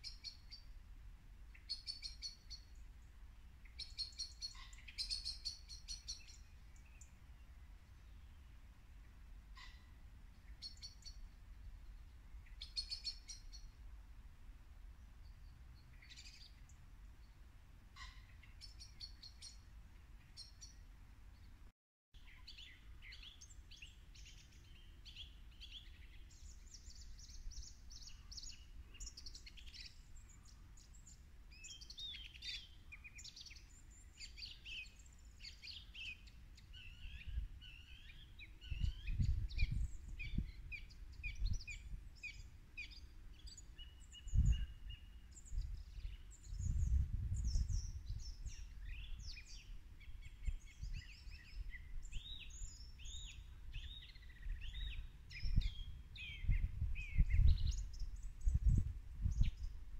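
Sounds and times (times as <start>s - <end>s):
birds chirping and twittering: 1.5s - 13.8s, 15.2s - 17.4s, 18.0s - 21.6s, 22.2s - 59.8s.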